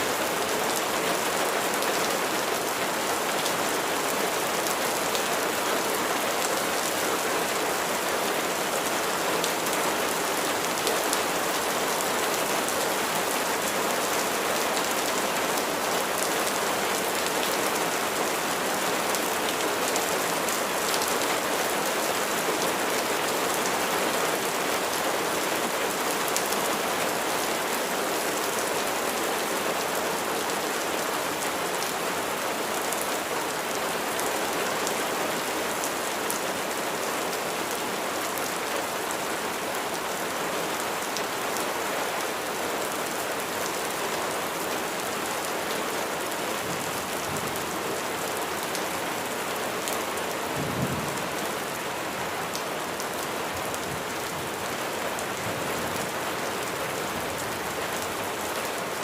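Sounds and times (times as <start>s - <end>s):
rain pattering on a surface: 0.0s - 59.0s.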